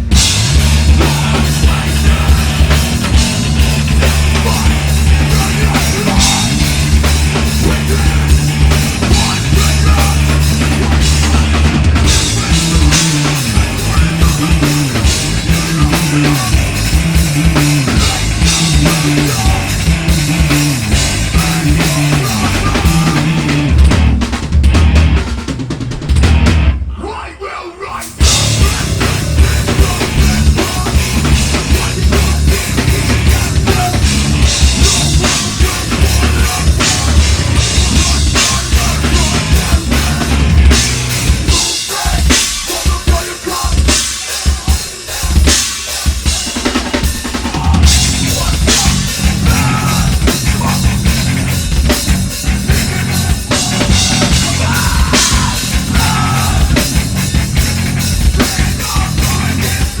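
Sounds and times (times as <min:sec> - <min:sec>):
drum kit: 0:00.0 - 0:26.9, 0:27.9 - 1:00.0
heavy metal band playing: 0:00.0 - 1:00.0.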